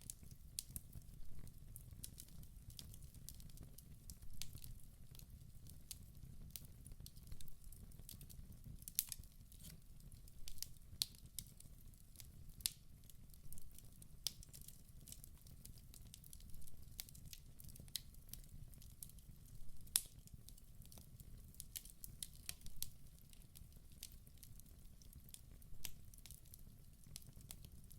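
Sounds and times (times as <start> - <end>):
wood fire crackling and popping: 0.0 - 27.9.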